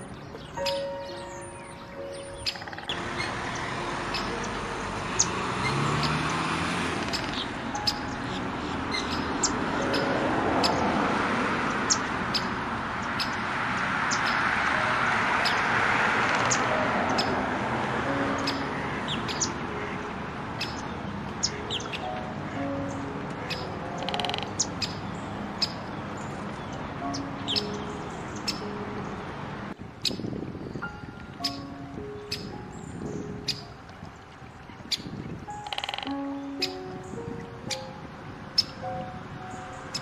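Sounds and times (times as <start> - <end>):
small birds chirping: 0.0 - 10.9, 11.7 - 14.6, 18.4 - 20.0, 20.6 - 29.2, 30.0 - 38.0, 38.6 - 40.0
continuous rushing background: 0.0 - 40.0.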